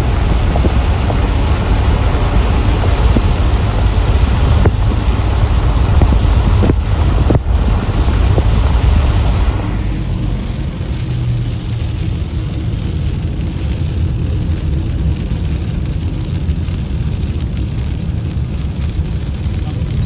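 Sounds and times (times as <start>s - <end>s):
heavy rain: 0.0s - 20.0s
road and wind noise: 0.0s - 20.0s
tyres hissing on wet pavement: 0.0s - 20.0s.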